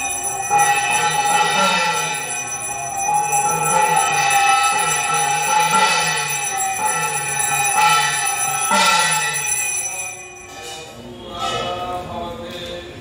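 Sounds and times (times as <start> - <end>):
hand bell ringing: 0.0 - 10.9.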